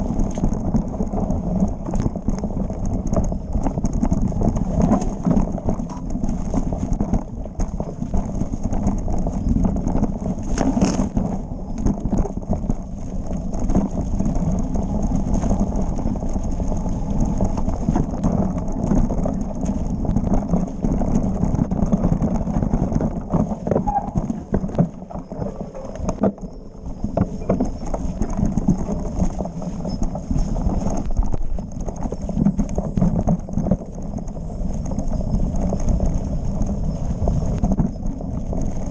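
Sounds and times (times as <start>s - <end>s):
low rumble: 0.0s - 38.9s
mountain bike clattering over rocks: 0.0s - 38.9s.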